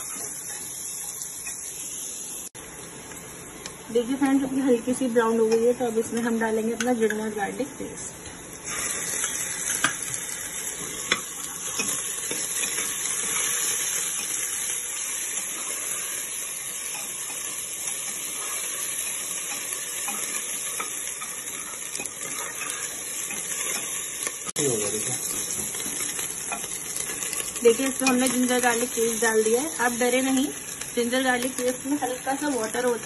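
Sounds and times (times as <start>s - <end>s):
onions sizzling in fat: 0.0s - 33.0s.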